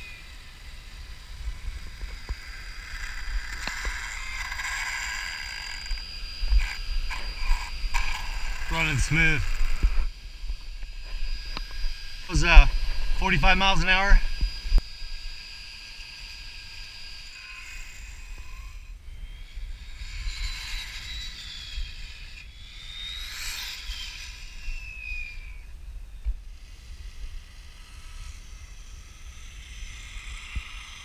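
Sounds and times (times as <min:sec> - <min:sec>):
rc car electric motor whine: 0:00.0 - 0:31.0.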